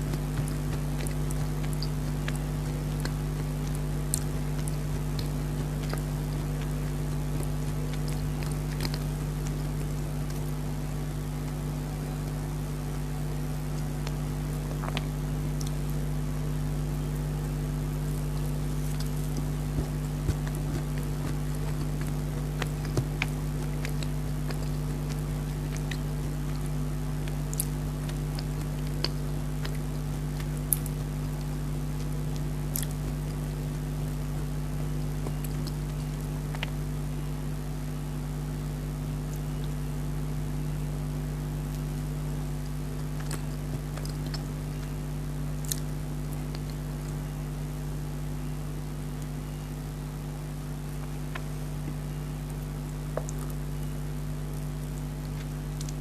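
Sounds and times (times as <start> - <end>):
chewing cake: 0.0 - 56.0
steady low hum: 0.0 - 56.0.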